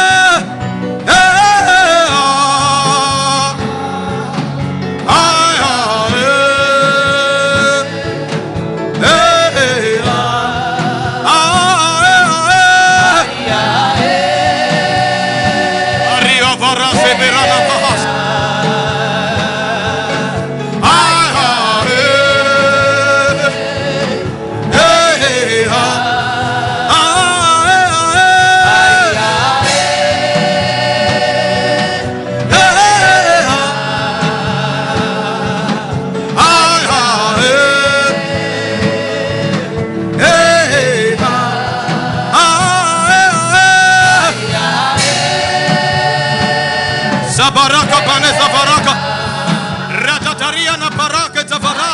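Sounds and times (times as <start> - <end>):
gospel singing with vibrato: 0.0 - 51.9
instrumental accompaniment: 0.0 - 51.9.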